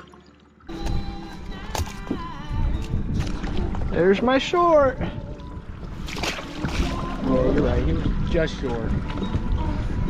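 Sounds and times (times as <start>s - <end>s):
boat noise: 0.0s - 10.0s
music: 0.1s - 10.0s.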